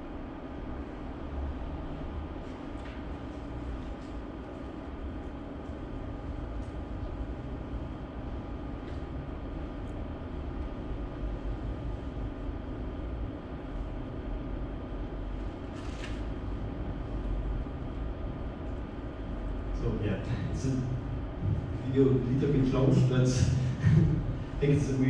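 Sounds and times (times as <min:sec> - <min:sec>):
low rumble with faint hum: 0:00.0 - 0:25.0.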